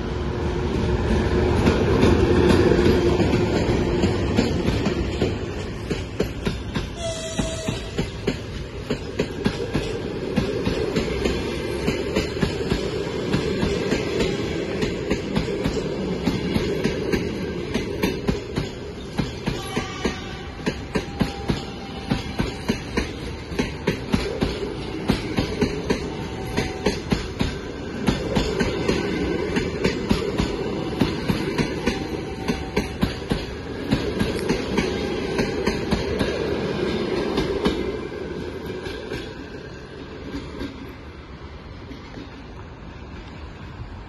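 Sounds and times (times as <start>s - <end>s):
train wheels clacking: 1.4s - 41.1s.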